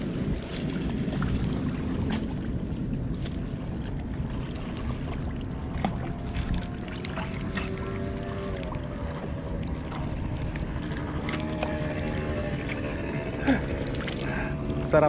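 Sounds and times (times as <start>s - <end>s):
water lapping against rocks: 0.0s - 15.0s
wind rumbling on microphone: 0.0s - 15.0s.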